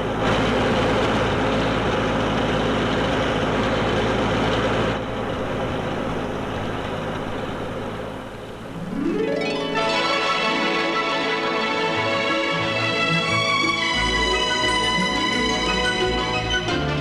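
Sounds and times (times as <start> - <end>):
heavy vehicle engine roar: 0.0 - 9.1, 9.8 - 17.0.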